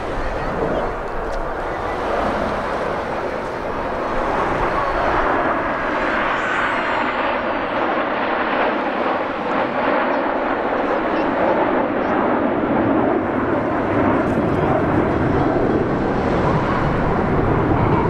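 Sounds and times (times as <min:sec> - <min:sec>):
jets flying past: 0:00.0 - 0:18.0.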